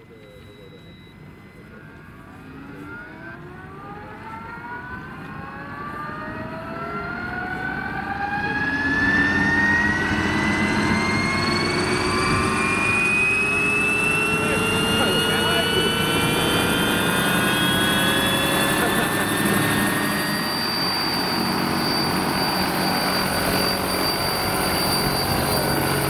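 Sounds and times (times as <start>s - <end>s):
electric motor whine rising: 2.0s - 26.0s.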